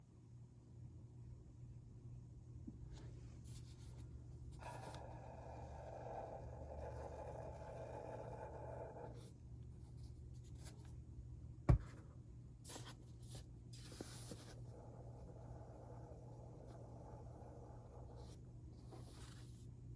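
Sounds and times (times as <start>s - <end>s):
low steady hum: 0.0s - 19.9s.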